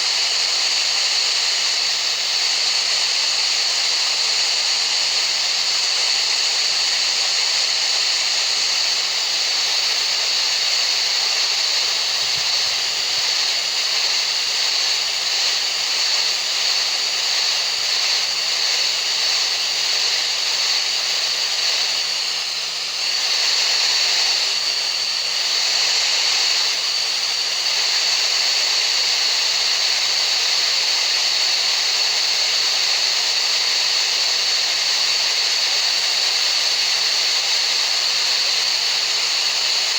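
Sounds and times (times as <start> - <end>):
steady hissing masking noise: 0.0 - 39.9.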